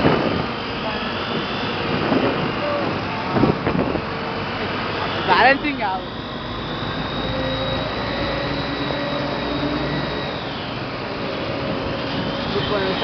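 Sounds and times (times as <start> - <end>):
thin high whine: 0.0 - 13.0
traffic engine drone: 0.0 - 13.0.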